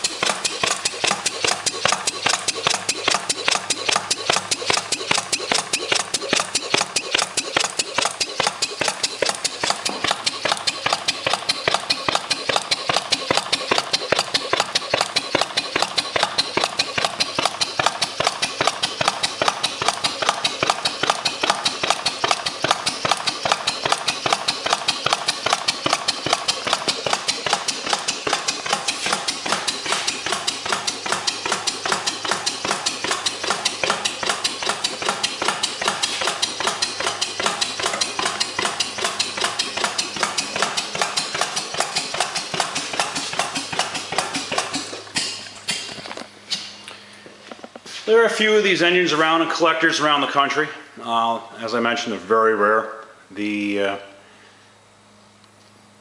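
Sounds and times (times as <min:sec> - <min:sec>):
gas engine clattering: 0:00.0 - 0:49.0.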